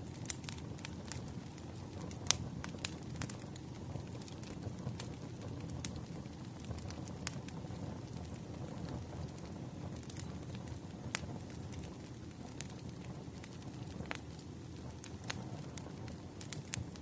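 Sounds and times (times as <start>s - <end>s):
firewood crackling: 0.0s - 17.0s
low rumble of flames: 0.0s - 17.0s.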